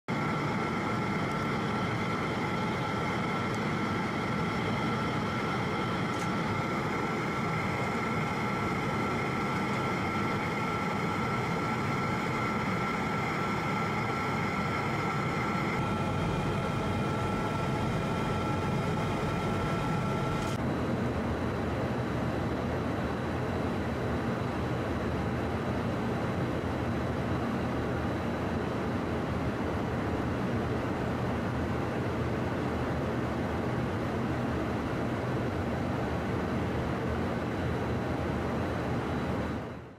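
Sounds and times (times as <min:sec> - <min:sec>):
aircraft engine drone: 0:00.1 - 0:39.9
constant high whine: 0:00.1 - 0:39.9.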